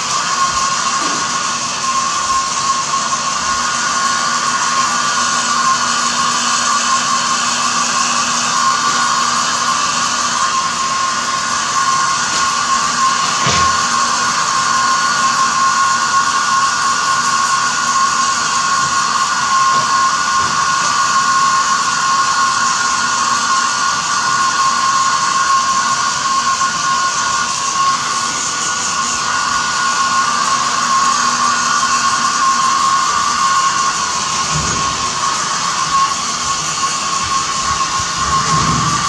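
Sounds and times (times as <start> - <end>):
hair dryer running: 0.0 - 39.0.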